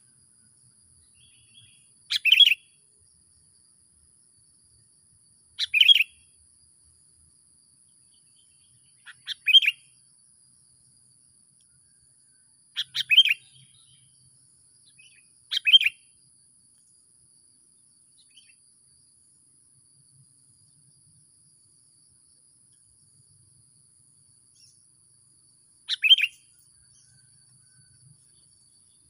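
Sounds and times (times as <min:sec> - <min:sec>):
songbird chirping: 0:00.0 - 0:29.0.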